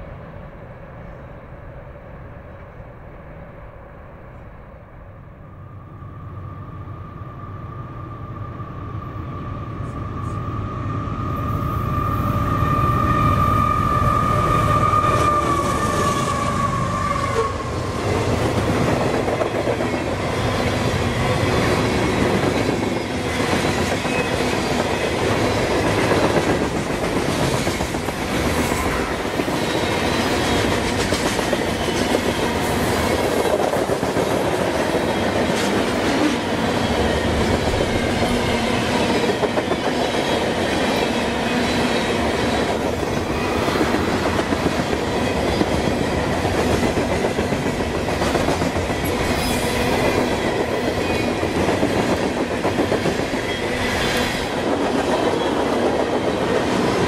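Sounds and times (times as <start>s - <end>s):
freight train rolling past: 0.0s - 57.0s
steel wheels rumbling on rail: 0.0s - 57.0s.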